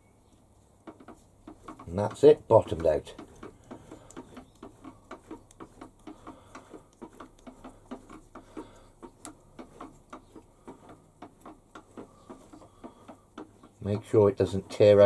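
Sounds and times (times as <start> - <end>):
fast mechanical ticking: 0.8 - 15.0.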